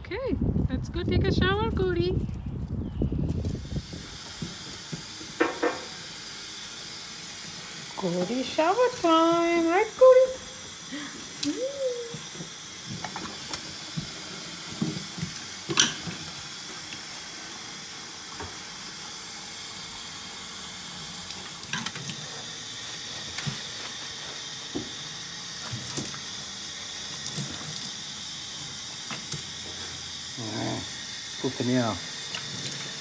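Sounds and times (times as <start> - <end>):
faucet running into sink: 3.4 - 33.0.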